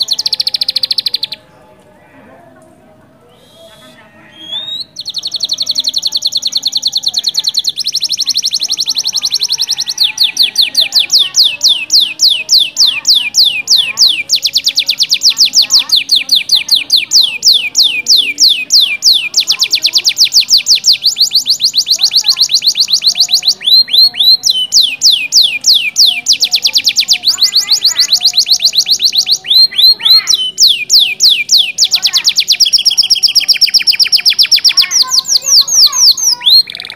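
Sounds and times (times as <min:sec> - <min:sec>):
canary singing trills: 0:00.0 - 0:36.9.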